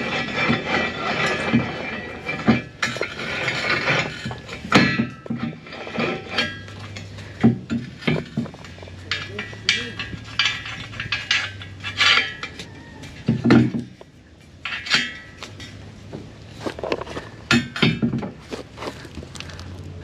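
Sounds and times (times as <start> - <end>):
steel parts clanking: 0.0 - 19.7
low steady hum: 0.0 - 20.0.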